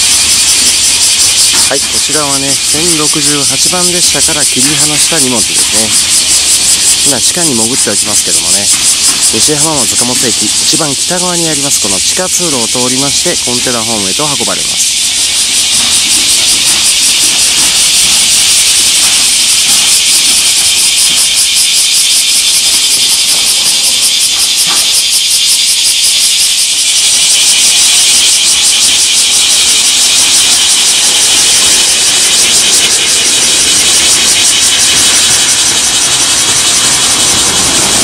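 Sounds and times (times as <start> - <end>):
low rumble of freight trains: 0.0 - 25.5, 27.1 - 38.0
high-pitched shrill hiss: 0.0 - 38.0.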